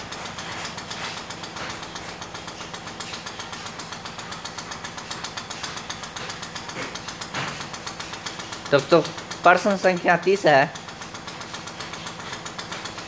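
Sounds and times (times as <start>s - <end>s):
machine humming with fast pulsing: 0.0s - 13.0s.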